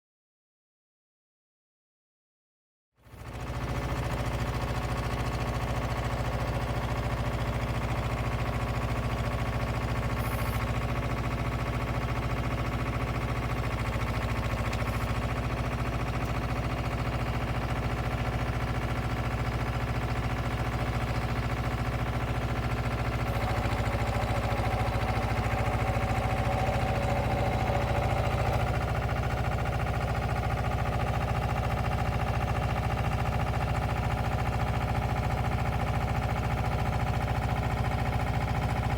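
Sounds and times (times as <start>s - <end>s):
diesel engine running: 3.1s - 38.9s.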